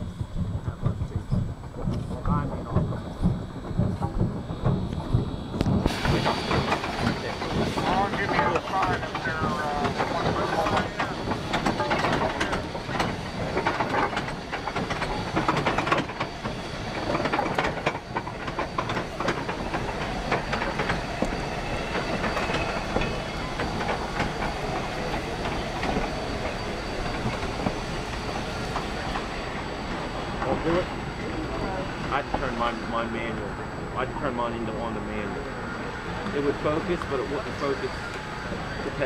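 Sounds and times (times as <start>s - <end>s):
steam train rolling past: 0.0s - 39.0s
wheels clanking over rail joints: 0.6s - 33.4s.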